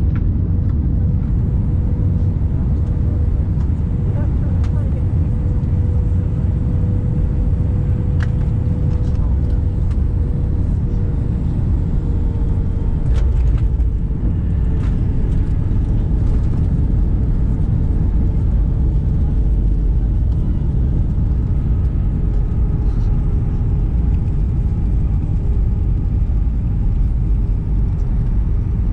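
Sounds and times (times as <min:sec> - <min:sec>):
jet engines and wheels rumbling: 0:00.0 - 0:28.9.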